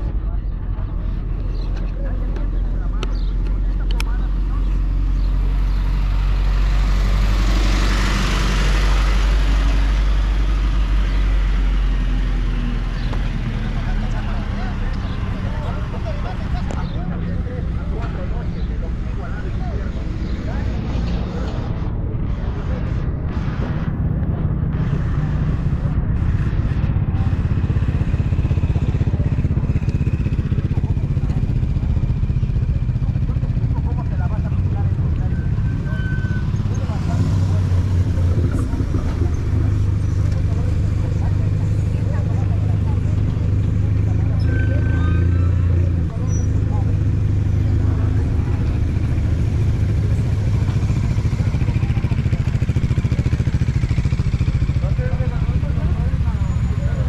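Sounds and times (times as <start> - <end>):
motorcycle engine running: 0.0 - 57.0
truck passing by: 3.6 - 57.0.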